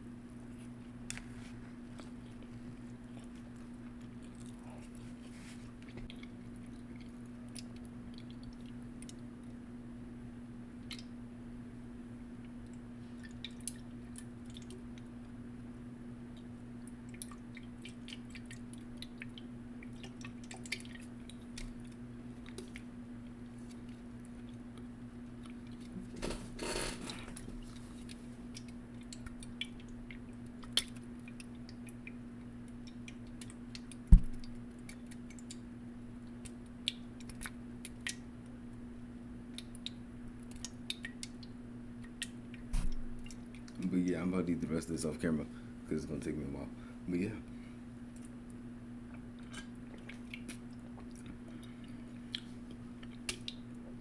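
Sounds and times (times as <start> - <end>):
steady low hum: 0.0 - 54.0
person chewing and eating: 0.3 - 9.6, 12.4 - 15.4, 16.3 - 38.6, 39.4 - 43.9, 48.1 - 54.0.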